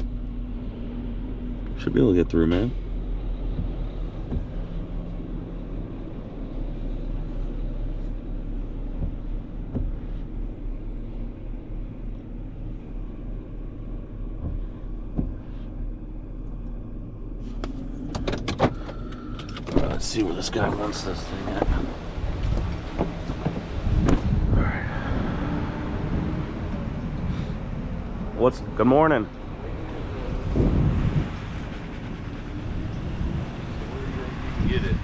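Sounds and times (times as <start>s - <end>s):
truck engine rumble: 0.0s - 35.0s.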